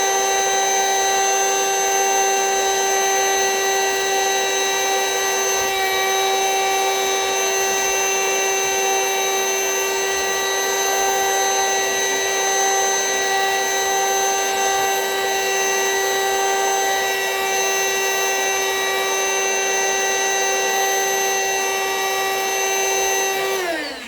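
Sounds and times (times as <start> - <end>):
vacuum cleaner whining: 0.0 - 24.0.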